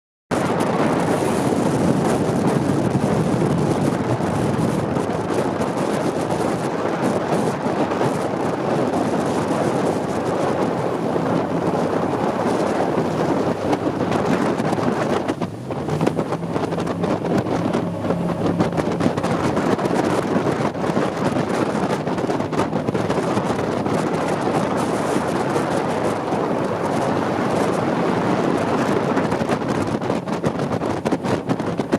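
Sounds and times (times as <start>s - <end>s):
boat engine: 0.3s - 31.9s
rushing water: 0.3s - 31.9s
wind buffeting microphone: 0.3s - 31.9s.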